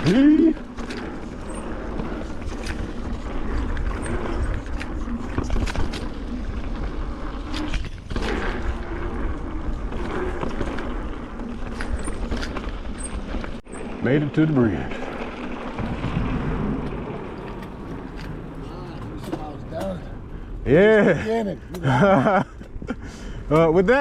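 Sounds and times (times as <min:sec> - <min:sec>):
wind rumble on microphone: 0:00.0 - 0:14.0, 0:14.8 - 0:21.2
bike clicks and rattles: 0:00.0 - 0:24.0
bike tyres rolling on dirt: 0:00.0 - 0:24.0.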